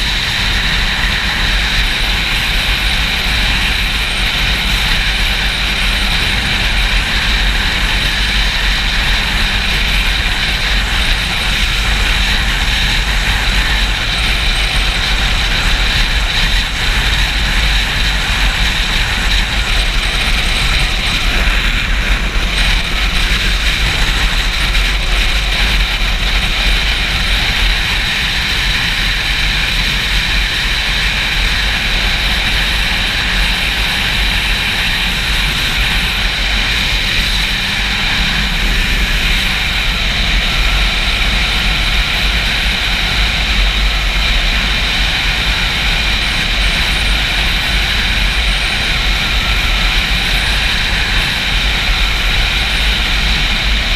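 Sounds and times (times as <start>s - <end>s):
motorcycle engine running: 0.0s - 53.9s
wind buffeting microphone: 0.0s - 53.9s.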